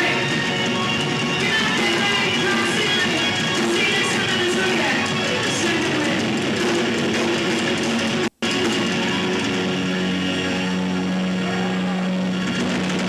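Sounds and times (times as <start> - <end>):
electric guitar: 0.0 - 13.0.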